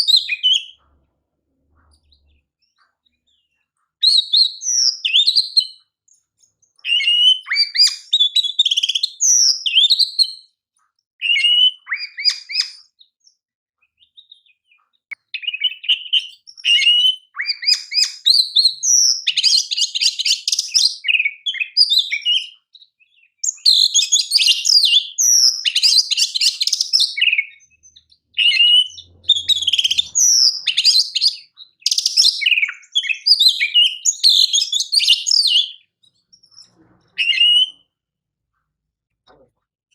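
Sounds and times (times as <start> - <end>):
songbird singing whistles and trills: 0.0 - 0.8, 1.8 - 10.6, 11.2 - 36.6, 37.2 - 37.9.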